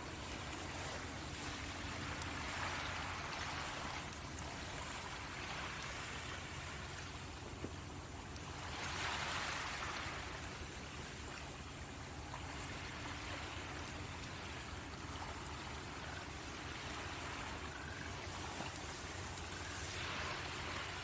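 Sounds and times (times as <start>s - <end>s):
small waves washing on beach: 0.0s - 21.0s.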